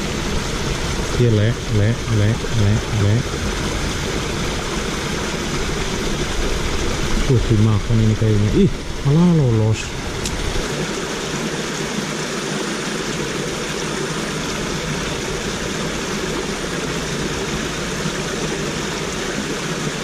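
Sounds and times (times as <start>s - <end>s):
water cascade rushing: 0.0s - 20.0s.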